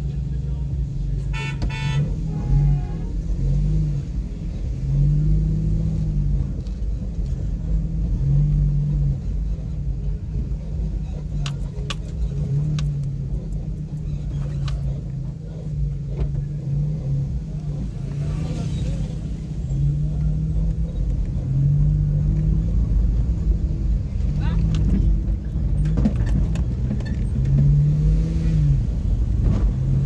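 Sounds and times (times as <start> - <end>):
car engine rising and falling: 2.0 - 30.0.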